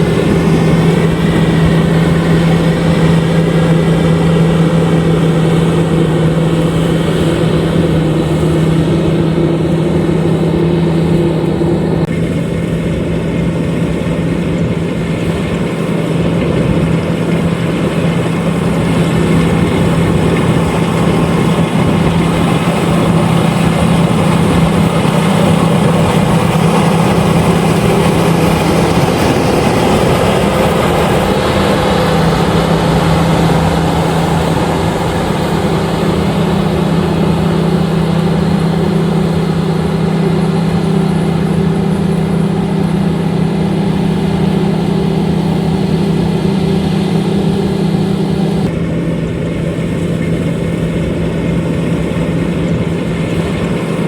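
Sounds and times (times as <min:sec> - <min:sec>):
combine harvester humming: 0:00.0 - 0:54.0.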